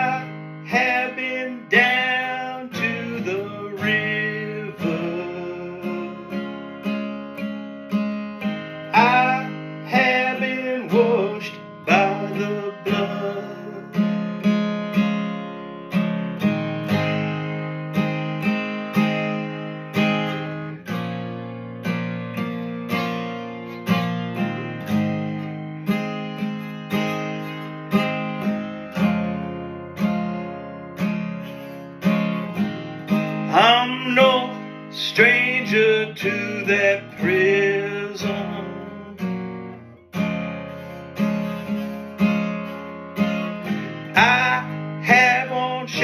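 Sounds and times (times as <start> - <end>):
acoustic guitar strumming: 0.0 - 46.0.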